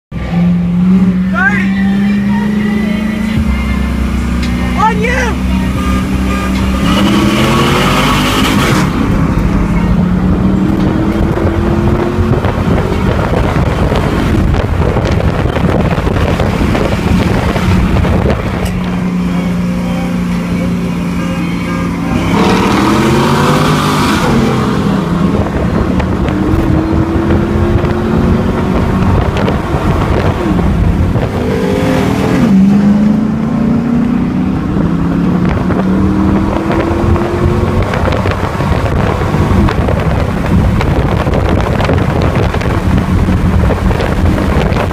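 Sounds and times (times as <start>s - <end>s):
car engine accelerating: 0.1s - 44.9s.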